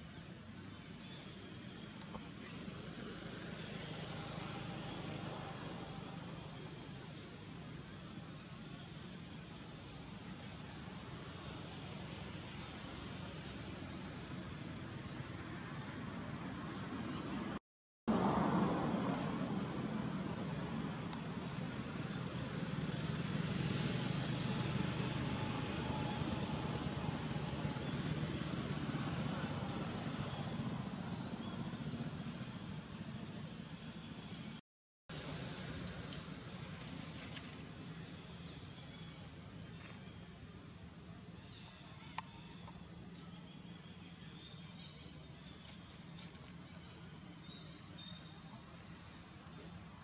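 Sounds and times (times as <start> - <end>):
faint outdoor ambience: 0.0 - 50.0.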